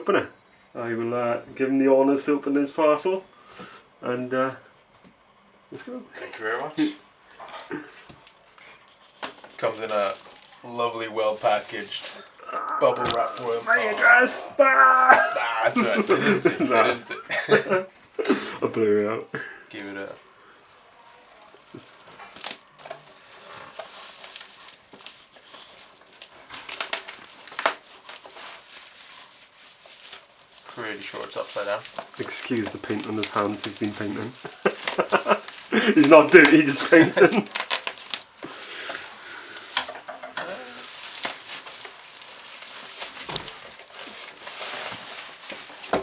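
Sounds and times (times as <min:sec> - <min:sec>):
bubble wrap crinkling and crackling: 0:06.8 - 0:18.3, 0:19.7 - 0:46.0
plastic packaging rustling: 0:07.3 - 0:17.8, 0:19.7 - 0:46.0.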